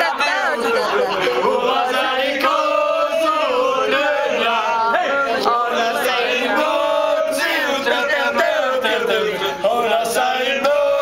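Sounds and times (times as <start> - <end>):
group of people singing: 0.0 - 11.0.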